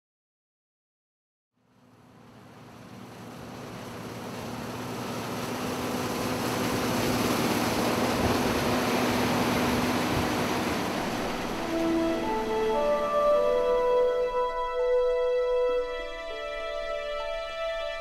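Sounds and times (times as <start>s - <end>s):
combine harvester running: 1.7s - 18.0s.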